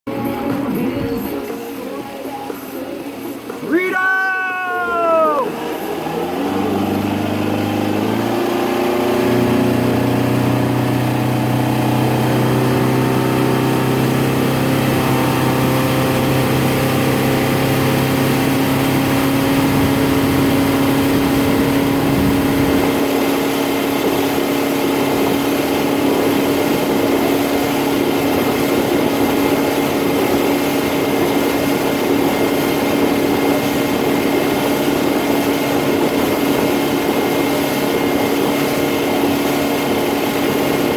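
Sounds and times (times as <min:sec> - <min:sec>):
motorboat engine running: 0:00.1 - 0:40.9
constant rushing noise: 0:00.2 - 0:40.9.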